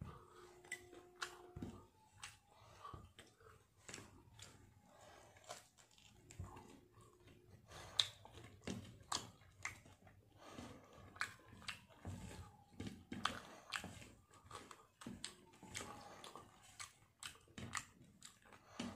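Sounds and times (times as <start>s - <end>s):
man chewing food: 0.0s - 18.9s.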